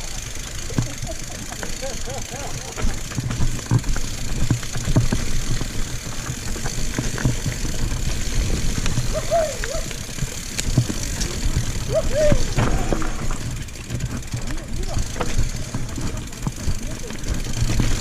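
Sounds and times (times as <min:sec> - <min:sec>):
mountain bike rolling over rough ground: 0:00.0 - 0:18.0.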